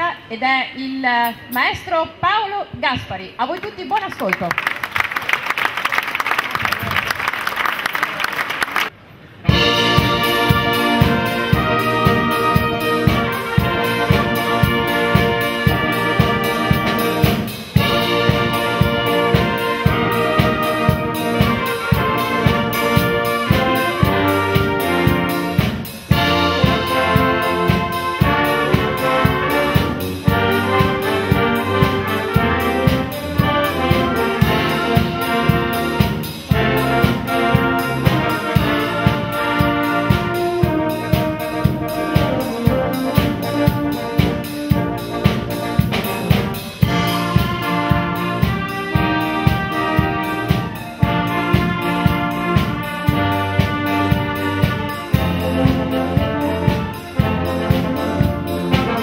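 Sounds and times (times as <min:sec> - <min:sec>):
wind band playing: 0:05.1 - 0:59.0.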